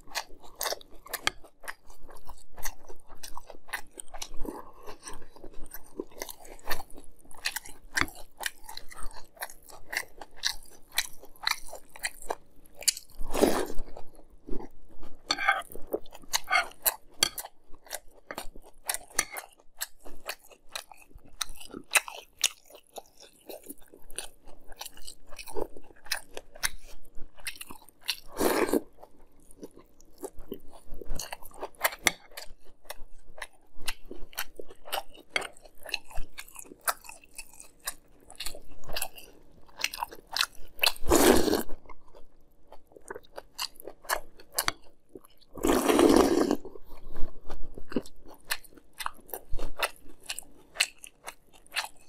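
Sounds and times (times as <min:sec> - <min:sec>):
chewing crunchy cereal: 0:00.0 - 0:52.0.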